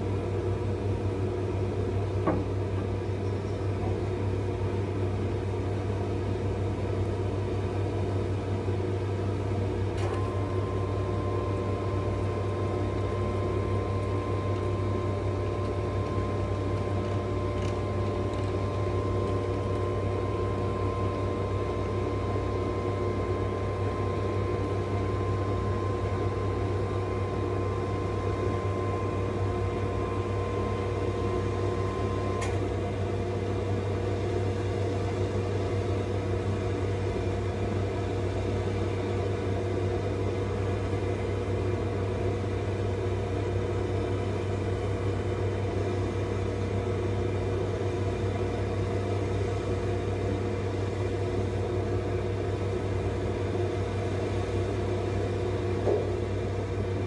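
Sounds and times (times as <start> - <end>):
faint steady whine: 0.0 - 57.0
low hum of loading machinery: 0.0 - 57.0.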